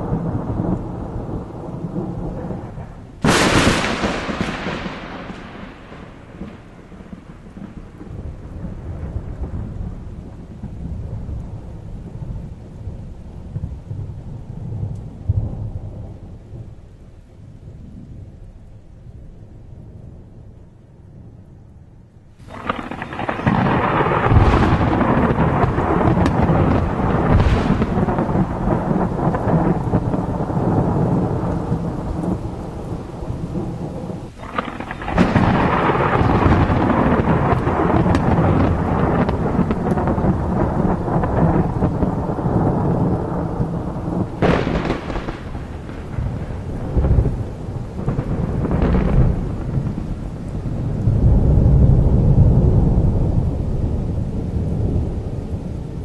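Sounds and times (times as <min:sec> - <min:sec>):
sharp thunder cracks: 0:00.0 - 0:11.4, 0:22.4 - 0:56.0
rumbling thunder: 0:00.0 - 0:16.9, 0:22.4 - 0:56.0
heavy rain: 0:00.0 - 0:56.0.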